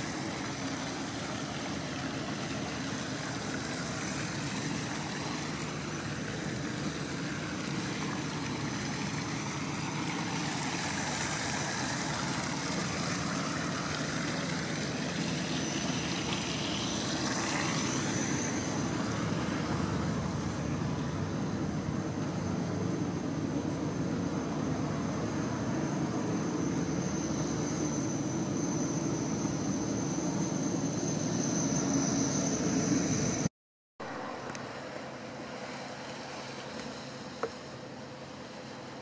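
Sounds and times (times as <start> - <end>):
faint steady hum: 0.0 - 39.0
low mechanical drone: 0.0 - 39.0.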